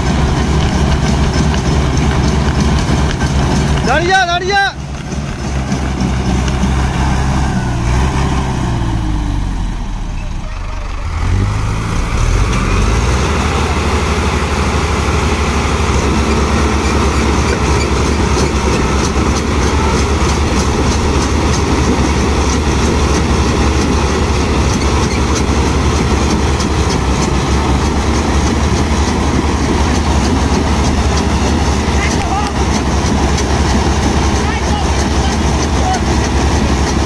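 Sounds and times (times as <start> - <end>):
tractor diesel engines droning: 0.0 - 37.0.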